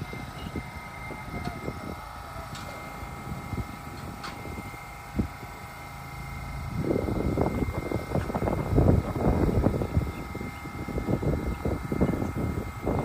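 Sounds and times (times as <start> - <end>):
subway train humming: 0.0 - 13.0
wind buffeting microphone: 0.0 - 13.0.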